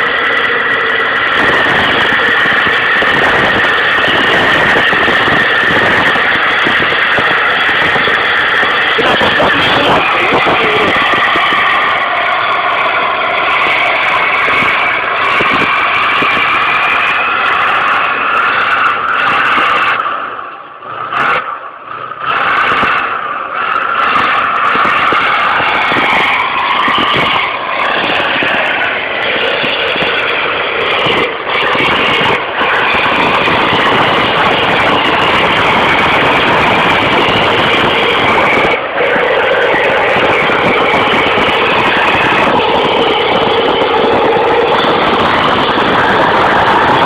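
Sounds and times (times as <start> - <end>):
vehicle engine and road noise: 0.0 - 47.0.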